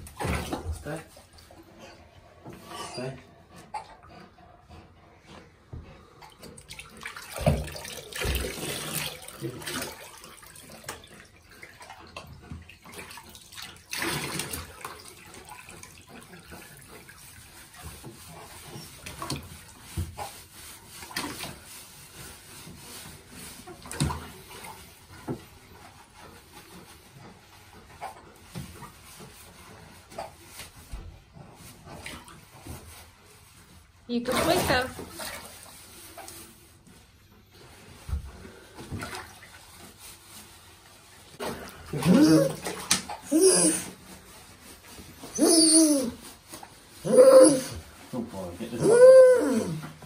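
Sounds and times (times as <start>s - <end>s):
bathwater splashing: 0.0s - 3.1s, 6.0s - 50.0s.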